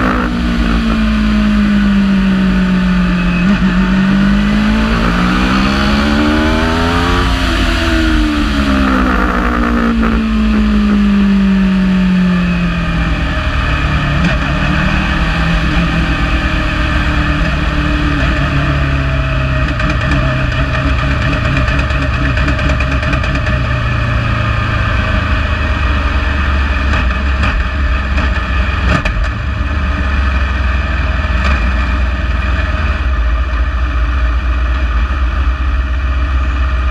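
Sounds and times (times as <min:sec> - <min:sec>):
race car engine revving: 0:00.0 - 0:33.5.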